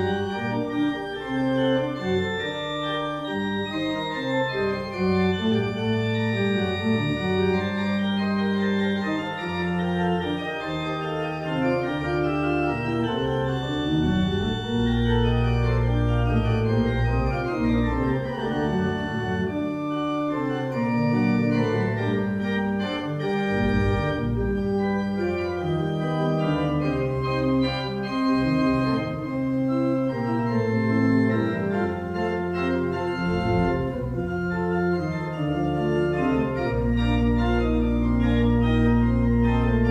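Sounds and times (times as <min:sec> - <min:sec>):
pipe organ chords: 0:00.0 - 0:39.9.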